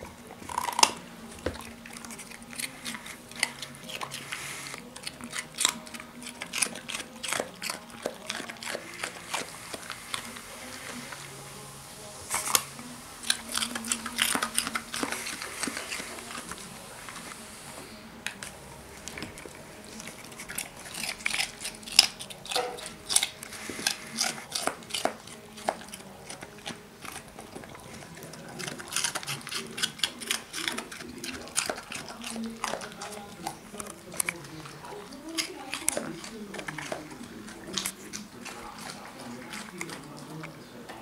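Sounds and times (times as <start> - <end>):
dog crunching raw carrot: 0.0 - 41.0.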